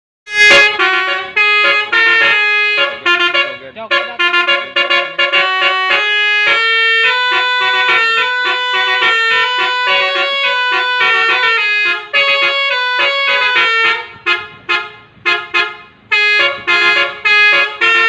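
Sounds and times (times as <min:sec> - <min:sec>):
bus horn playing a melody: 0:00.2 - 0:18.0.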